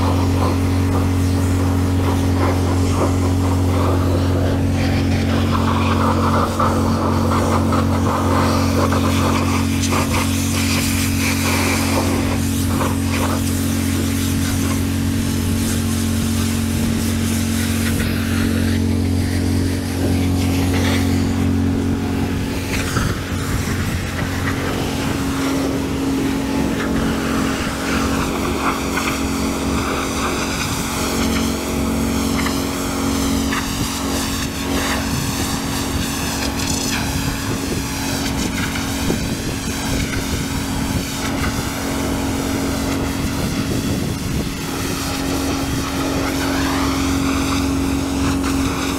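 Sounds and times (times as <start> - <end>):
hiss of water spray: 0.0 - 48.9
pressure washer engine drone: 0.0 - 48.9.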